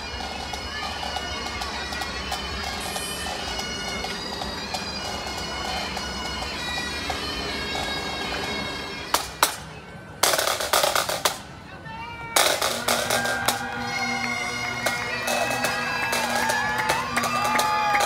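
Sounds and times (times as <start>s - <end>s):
bagpipes playing: 0.0s - 11.2s, 12.1s - 18.0s.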